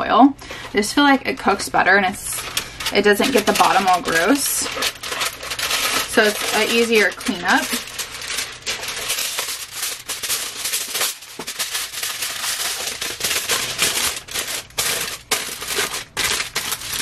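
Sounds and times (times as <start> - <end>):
aluminum foil crinkling: 0.5 - 17.0.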